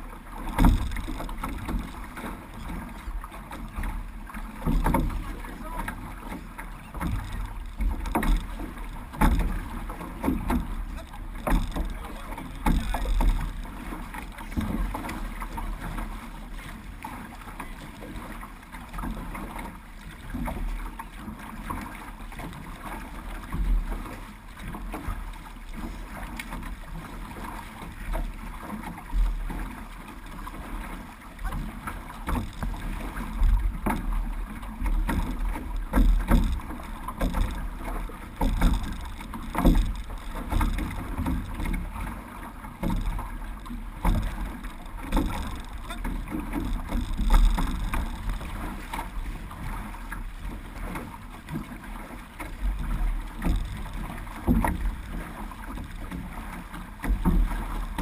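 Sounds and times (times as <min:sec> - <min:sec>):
paddles splashing in water: 0:00.0 - 0:58.0.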